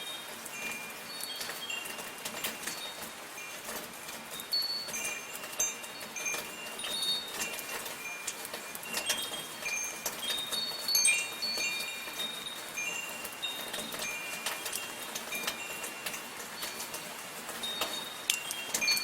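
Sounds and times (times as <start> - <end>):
metal wind chimes ringing: 0.0 - 19.0
soft rainfall: 0.0 - 19.0.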